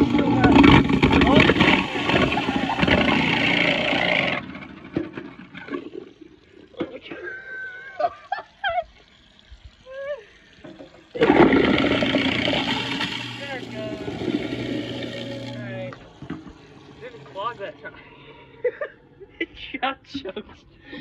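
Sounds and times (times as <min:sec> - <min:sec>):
garbage disposal grinding ice: 0:00.0 - 0:19.5.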